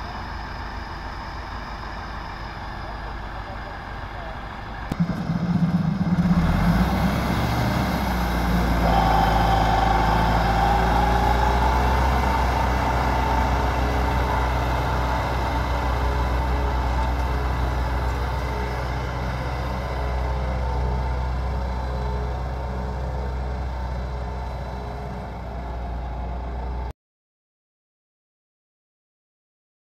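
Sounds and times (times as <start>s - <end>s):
tractor diesel engine under load: 0.0s - 26.9s.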